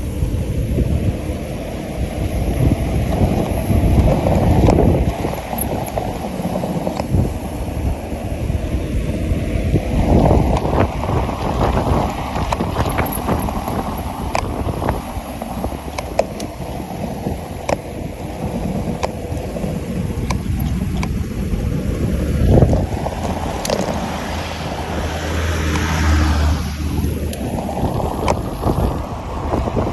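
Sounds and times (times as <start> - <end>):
wind buffeting microphone: 0.0 - 29.9
sharp clicks and rattles: 2.6 - 7.3, 10.0 - 29.9.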